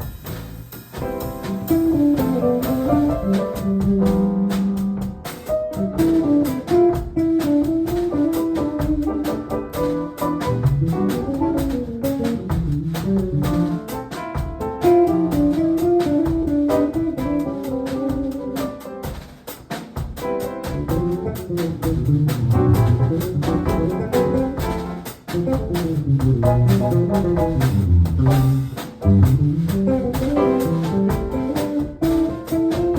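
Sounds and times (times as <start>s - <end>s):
double bass: 0.0s - 14.0s, 14.7s - 18.8s, 20.5s - 32.9s
drum kit: 0.0s - 32.9s
acoustic piano: 1.0s - 32.9s.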